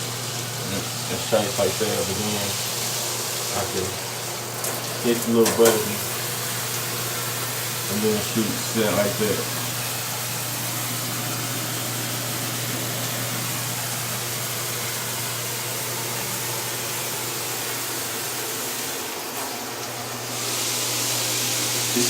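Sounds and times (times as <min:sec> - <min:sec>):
exhaust fan humming: 0:00.0 - 0:22.0
shower spraying water: 0:00.0 - 0:22.0.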